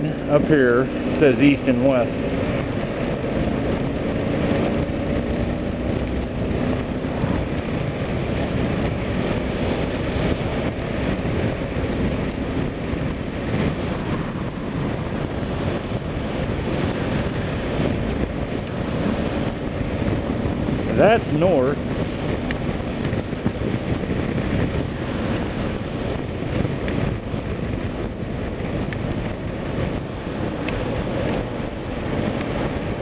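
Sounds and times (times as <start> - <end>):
motorcycle engine running: 0.0 - 33.0
wind noise on microphone: 0.0 - 33.0.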